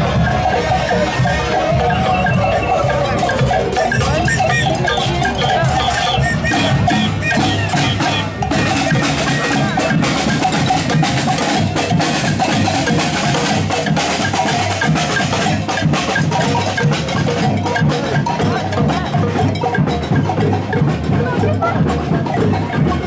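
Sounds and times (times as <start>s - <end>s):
marching drums playing: 0.0s - 23.0s.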